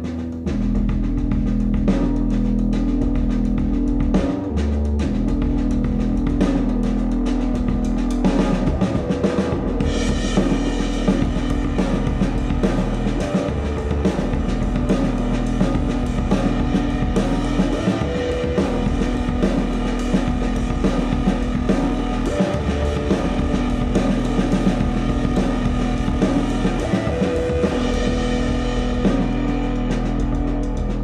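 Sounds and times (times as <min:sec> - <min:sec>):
fast busy drumming: 0:00.0 - 0:31.0
jazz trio music over speakers: 0:00.0 - 0:31.0.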